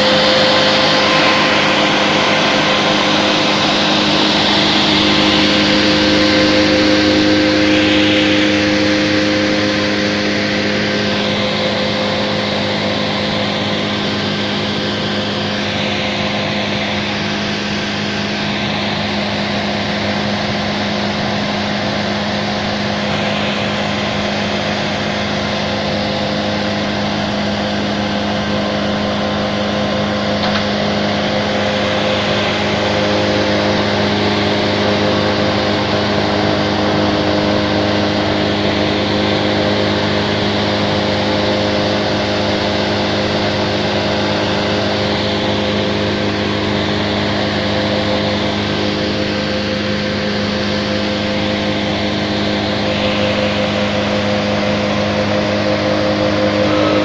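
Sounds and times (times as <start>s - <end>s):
wood chipper engine running: 0.0s - 57.0s.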